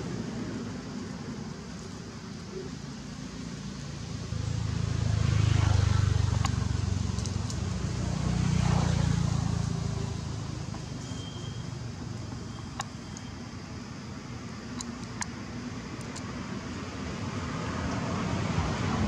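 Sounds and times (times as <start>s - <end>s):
passing motor traffic rumble: 0.0s - 19.0s.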